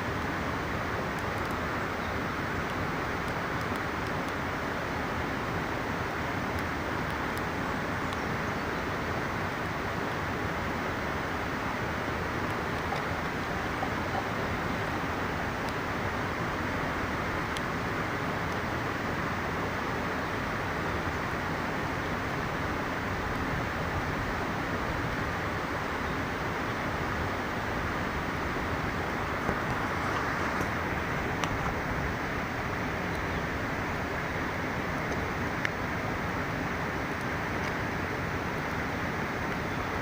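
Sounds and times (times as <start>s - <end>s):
campfire crackles: 0.0s - 40.0s
river rushing over rocks: 0.0s - 40.0s.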